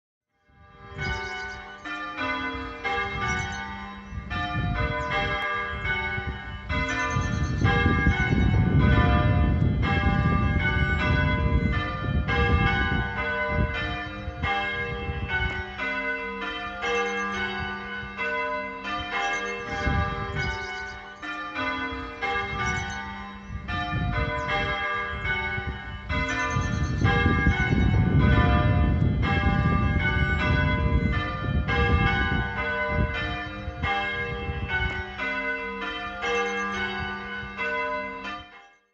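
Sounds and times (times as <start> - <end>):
church bells ringing: 0.4 - 38.9.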